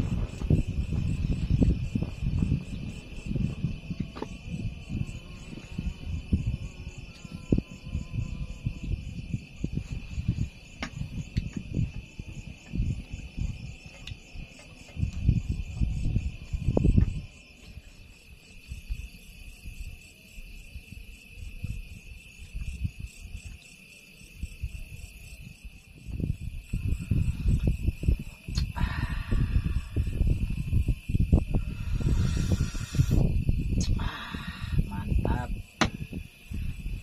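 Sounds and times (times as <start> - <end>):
crickets chirping: 0.0 - 37.0
wind buffeting the microphone: 0.0 - 37.0.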